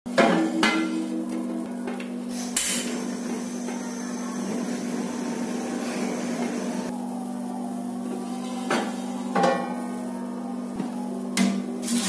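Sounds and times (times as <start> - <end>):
gas burner hissing: 2.2 - 12.0.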